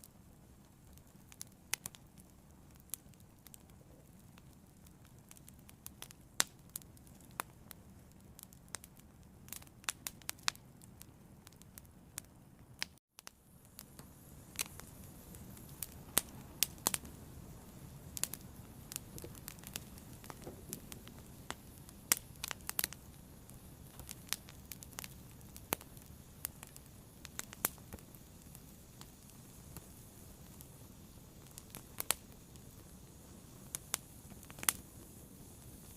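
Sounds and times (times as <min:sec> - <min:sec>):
fire crackling: 0:00.0 - 0:35.9.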